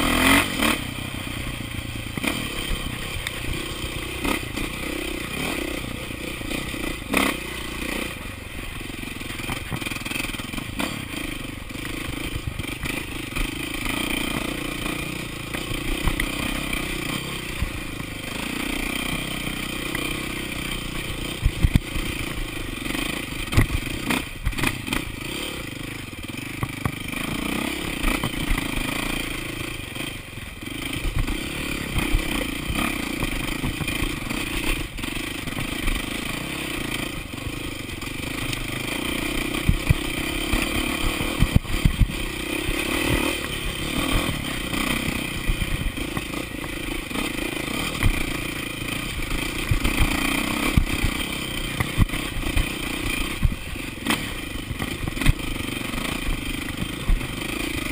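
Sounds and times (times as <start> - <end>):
bike rattling over bumps: 0.0 - 57.9
motorcycle engine revving: 0.0 - 57.9.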